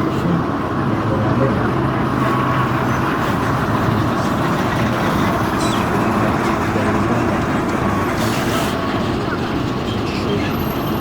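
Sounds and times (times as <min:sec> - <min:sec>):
road and traffic rumble: 0:00.0 - 0:11.0
vehicle engine running: 0:00.0 - 0:11.0.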